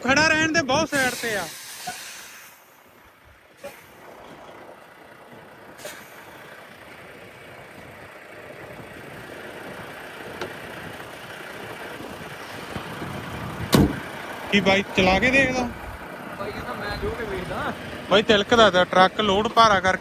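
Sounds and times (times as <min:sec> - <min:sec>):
truck running on snowy road: 0:00.0 - 0:20.0.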